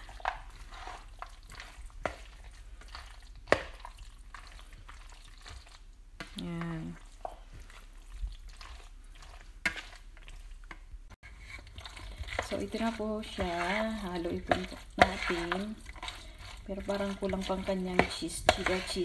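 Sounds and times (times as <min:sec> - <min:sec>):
spoon stirring wet salad: 0:00.0 - 0:19.0.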